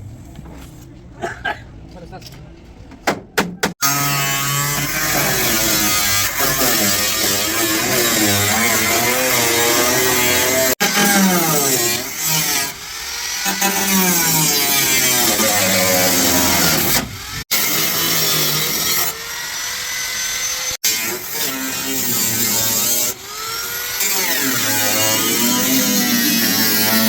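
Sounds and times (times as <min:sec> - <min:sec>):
handheld power tool running: 0:03.8 - 0:27.0.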